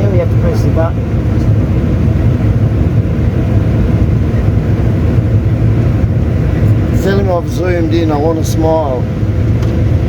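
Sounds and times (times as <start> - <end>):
combine harvester drone: 0.0 - 10.0.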